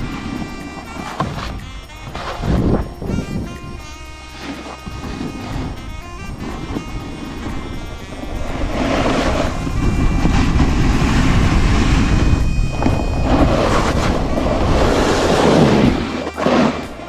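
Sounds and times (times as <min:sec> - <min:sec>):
snowboard carving on snow: 0:00.0 - 0:17.0
wind on microphone: 0:00.0 - 0:17.0.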